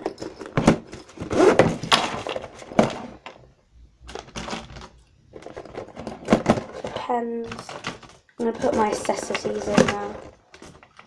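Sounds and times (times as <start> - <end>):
pens and pencils clattering: 0.0 - 3.4, 4.0 - 11.0.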